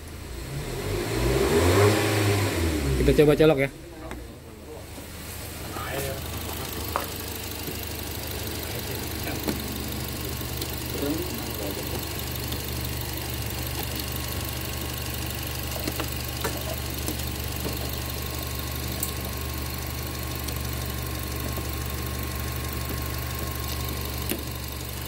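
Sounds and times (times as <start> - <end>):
car engine idling: 2.4 - 25.0.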